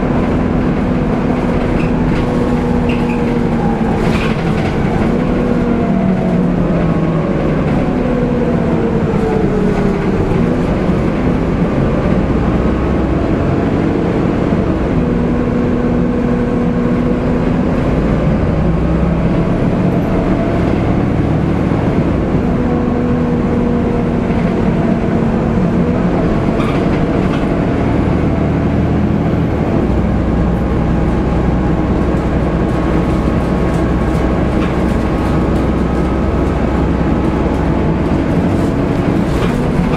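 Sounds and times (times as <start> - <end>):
bus diesel engine running: 0.0 - 39.9
road rumble: 0.0 - 39.9.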